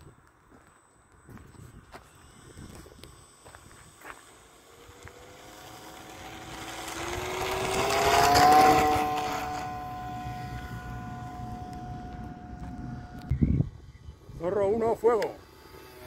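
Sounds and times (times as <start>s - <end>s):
model plane motor whining: 1.5s - 16.0s.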